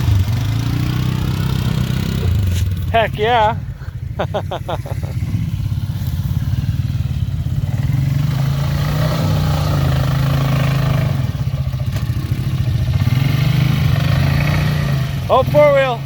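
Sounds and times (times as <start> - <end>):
atv engine running under load: 0.0 - 16.0.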